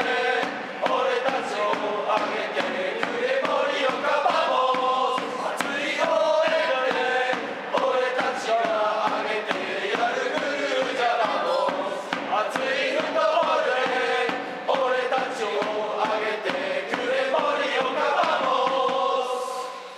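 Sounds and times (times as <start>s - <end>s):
steady drum beat: 0.0s - 19.4s
crowd chanting in unison: 0.0s - 19.9s.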